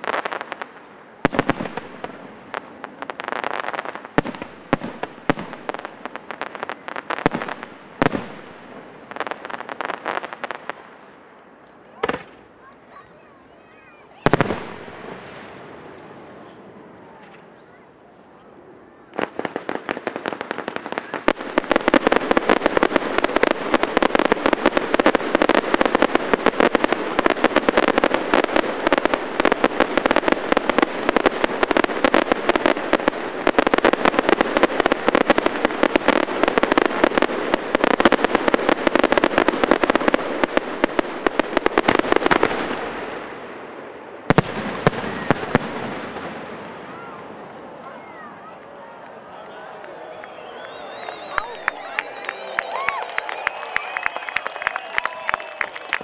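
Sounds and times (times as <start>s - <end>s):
sharp firework cracks: 0.0s - 17.8s, 19.0s - 47.3s
fireworks crackling barrage: 0.0s - 56.0s.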